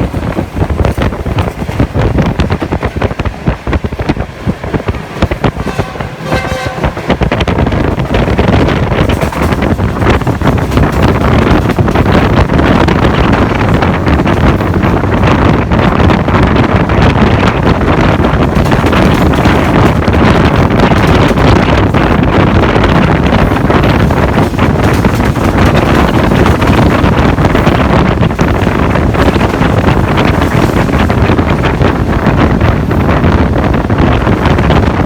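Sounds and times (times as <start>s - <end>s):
train wheels on rails: 0.0s - 35.0s
wind buffeting microphone: 0.0s - 35.0s.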